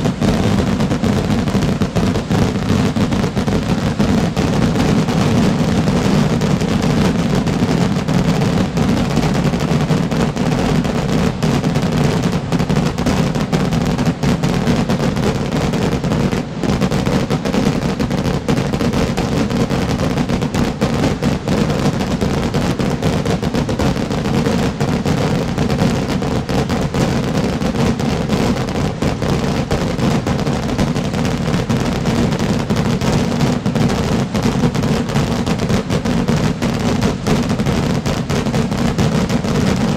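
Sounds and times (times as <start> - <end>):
fireworks bursting rapidly: 0.0 - 39.9.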